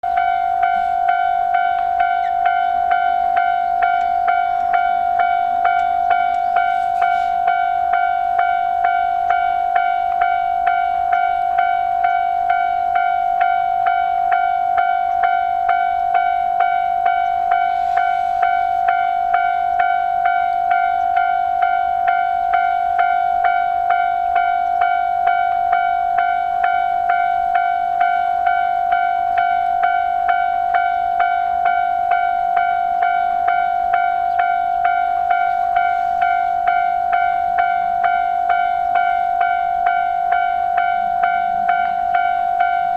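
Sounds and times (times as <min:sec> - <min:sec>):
level-crossing alarm dinging: 0:00.0 - 0:42.9.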